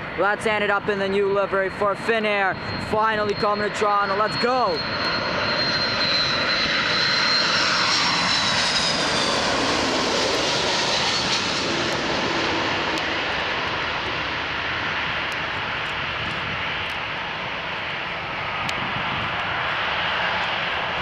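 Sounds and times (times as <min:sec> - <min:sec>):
jet engines rushing and whining: 0:00.0 - 0:21.0.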